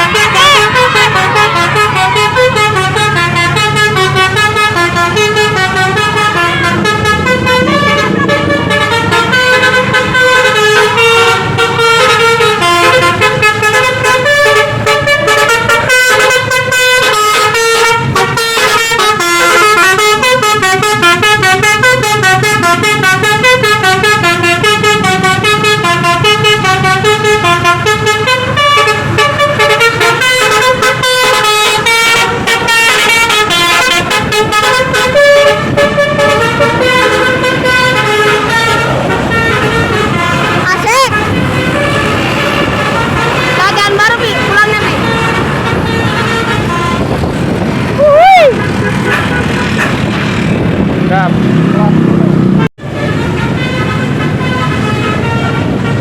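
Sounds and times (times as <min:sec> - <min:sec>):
musical air horn melody: 0:00.0 - 0:50.2, 0:52.6 - 0:56.0
bus engine rumble: 0:00.0 - 0:56.0.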